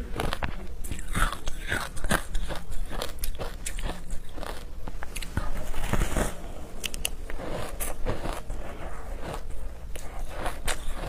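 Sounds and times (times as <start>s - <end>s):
teeth crunching shaved ice: 0.0s - 5.5s, 6.8s - 11.0s.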